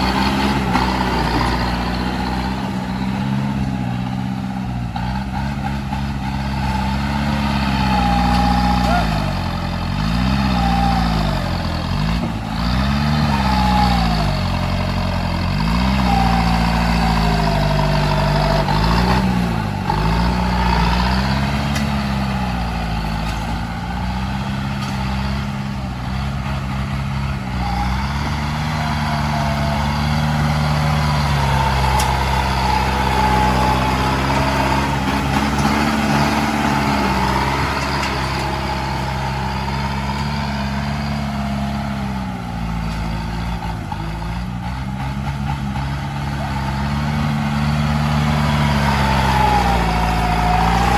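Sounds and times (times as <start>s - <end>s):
heavy diesel engine under load: 0.0s - 50.9s.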